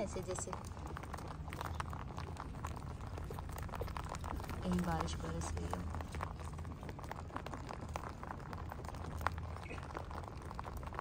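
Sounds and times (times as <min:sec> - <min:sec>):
rabbits chewing grains: 0:00.0 - 0:11.0.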